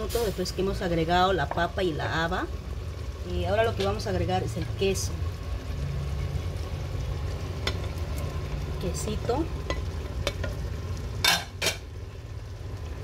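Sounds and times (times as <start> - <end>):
pot simmering low rumble: 0.0 - 13.0.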